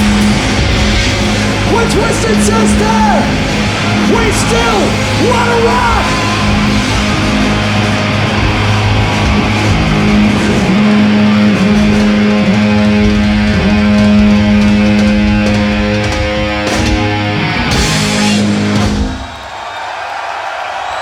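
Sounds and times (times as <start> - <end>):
distorted electric guitars and bass: 0.0 - 19.3
drum and cymbal hits: 0.0 - 19.6.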